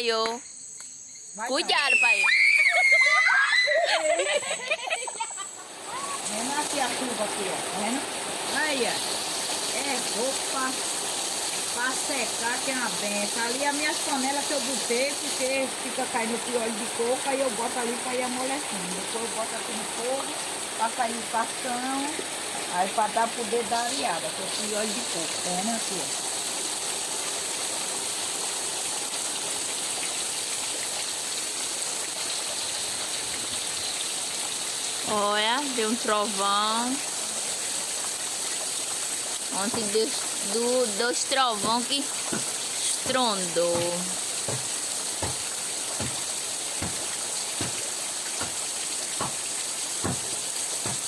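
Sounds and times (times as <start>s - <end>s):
heavy rain pouring: 2.6s - 51.0s
low water drip: 5.6s - 51.0s.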